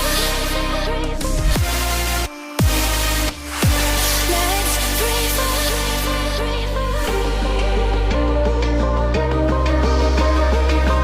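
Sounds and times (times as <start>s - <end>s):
electronic music with synth melody: 0.0s - 11.0s.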